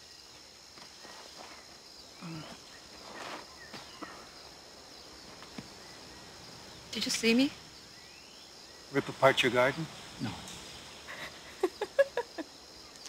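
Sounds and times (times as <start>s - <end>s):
high buzz of insects: 0.0s - 13.0s.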